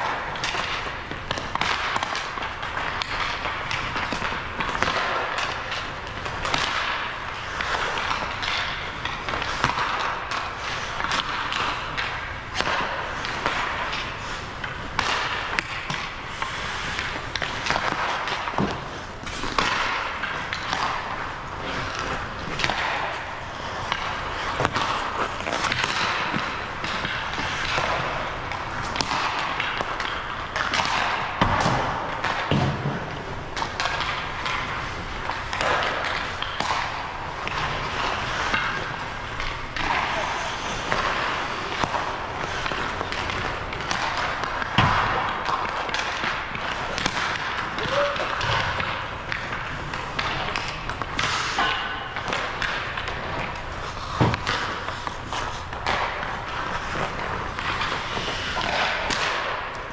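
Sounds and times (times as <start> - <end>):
skate blades scraping ice: 0.0 - 59.9
sticks and pucks clacking: 0.0 - 59.9.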